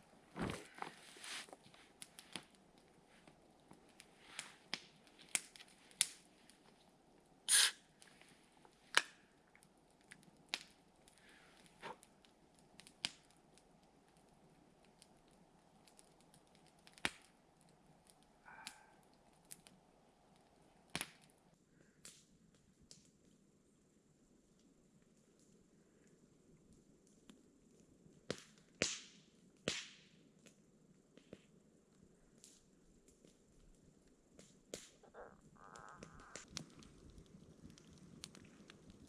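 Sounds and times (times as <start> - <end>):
campfire crackling and popping: 0.0 - 23.4, 24.5 - 39.0
faint fire hiss: 0.0 - 39.0.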